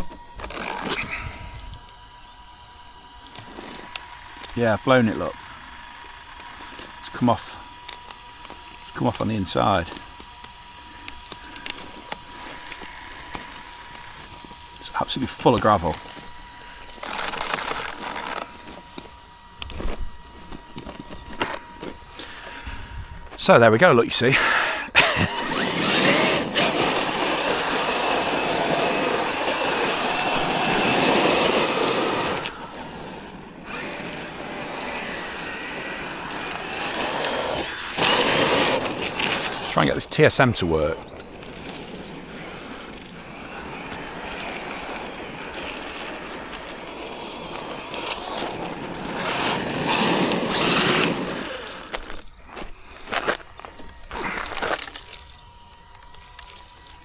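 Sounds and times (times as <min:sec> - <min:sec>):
high electric motor whine: 0:00.0 - 0:57.0
tyres on gravel: 0:00.0 - 0:57.0.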